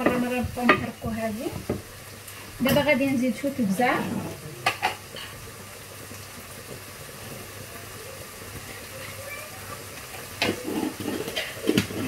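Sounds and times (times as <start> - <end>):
onions and peppers sizzling in pan: 0.0 - 12.0.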